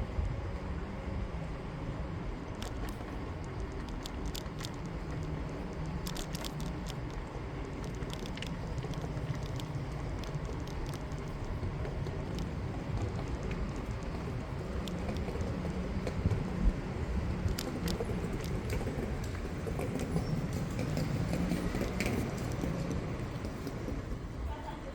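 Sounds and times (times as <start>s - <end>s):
wind and rolling tyres: 0.0s - 24.9s
bicycle clicks and rattles: 2.4s - 24.0s.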